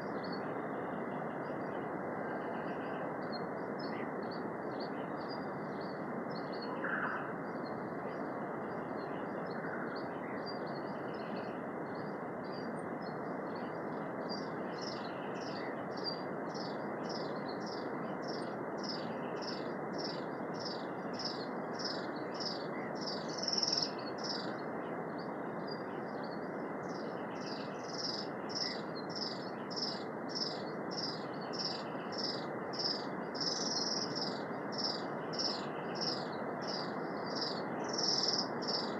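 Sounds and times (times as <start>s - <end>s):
steady rushing forest background: 0.0s - 38.9s.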